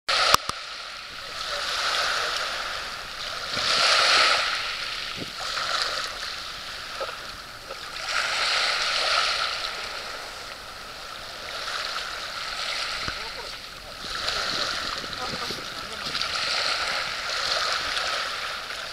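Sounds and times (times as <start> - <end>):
surf hissing: 0.1 - 18.9.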